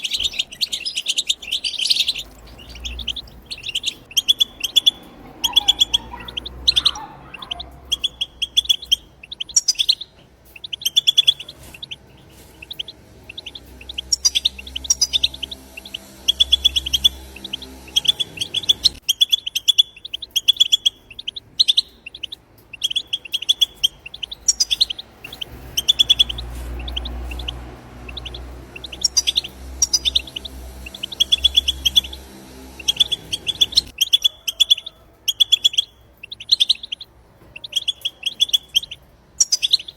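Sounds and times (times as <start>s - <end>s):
goldfinch chattering song: 0.0s - 39.9s.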